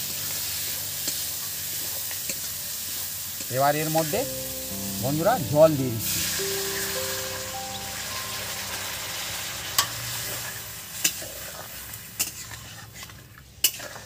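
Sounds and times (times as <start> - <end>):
water hissing in hot pan: 0.0 - 5.3, 6.0 - 14.0.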